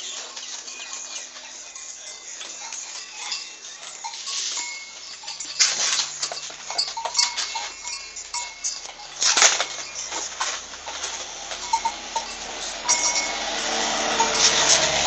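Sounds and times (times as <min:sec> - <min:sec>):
animals scuffling with knocks: 0:00.0 - 0:15.0.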